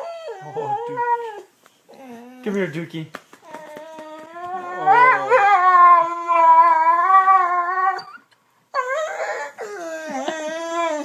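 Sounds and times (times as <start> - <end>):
dog howling: 0.0 - 2.4, 3.6 - 8.2, 8.8 - 11.0.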